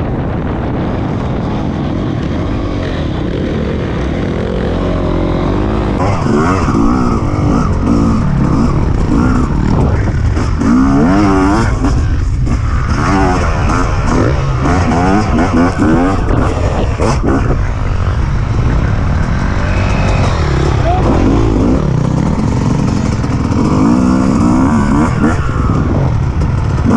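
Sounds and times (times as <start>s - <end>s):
low rumble: 0.0s - 26.9s
dirt bike engine revving: 1.2s - 26.9s.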